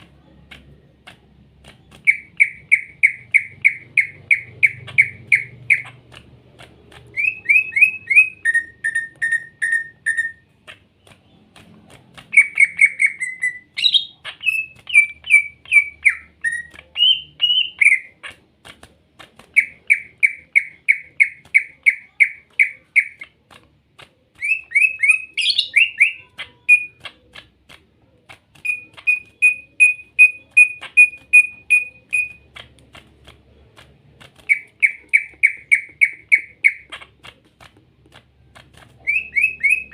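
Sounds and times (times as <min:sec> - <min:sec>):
bird chirping rapidly: 0:01.6 - 0:18.4, 0:19.4 - 0:23.4, 0:24.3 - 0:27.3, 0:28.5 - 0:32.8, 0:33.5 - 0:37.3, 0:39.0 - 0:39.9.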